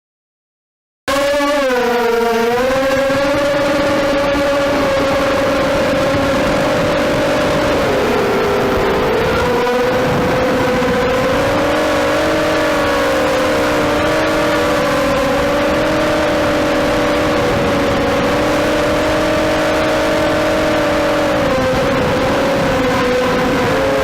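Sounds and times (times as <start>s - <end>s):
drone propellers whining: 1.1s - 24.0s.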